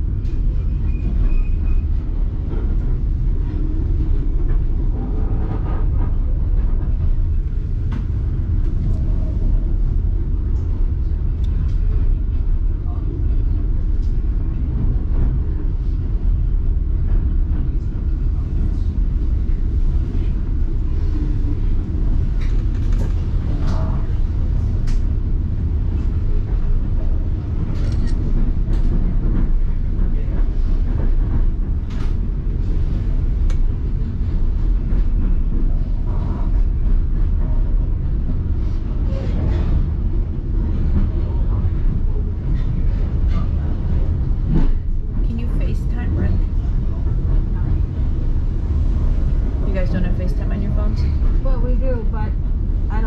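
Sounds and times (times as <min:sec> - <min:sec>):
train rumbling along track: 0:00.0 - 0:53.0.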